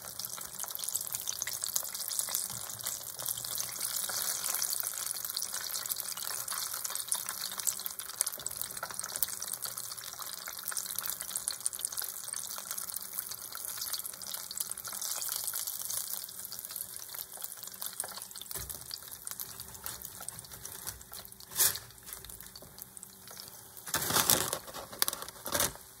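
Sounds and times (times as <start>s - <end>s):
oil crackling and sizzling: 0.0s - 26.0s.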